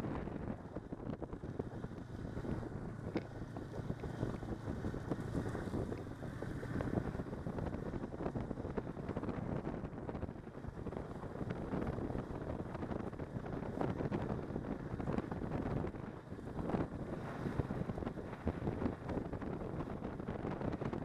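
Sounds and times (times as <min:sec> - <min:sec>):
snowmobile engine running: 0:00.0 - 0:21.0
wind buffeting microphone: 0:00.0 - 0:21.0.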